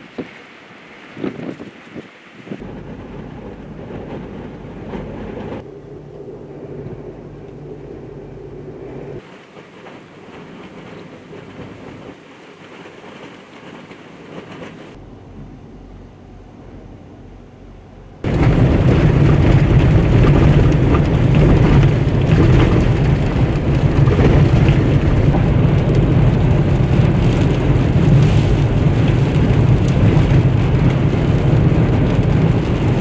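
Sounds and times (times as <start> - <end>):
gusting wind: 0.0 - 33.0
road noise inside vehicle: 0.0 - 33.0.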